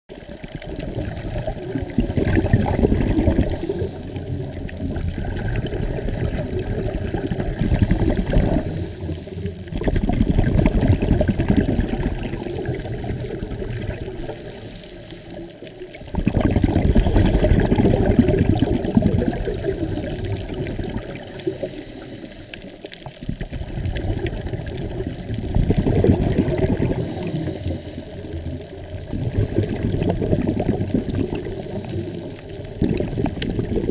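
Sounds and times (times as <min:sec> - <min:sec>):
underwater bubbles from diver: 0:00.1 - 0:33.9.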